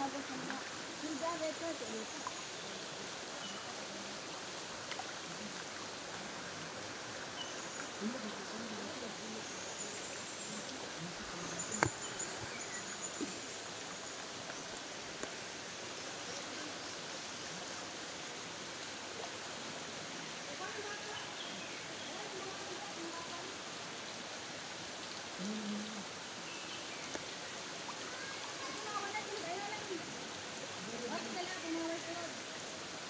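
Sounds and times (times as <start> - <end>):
water running over rocks: 0.0 - 33.0.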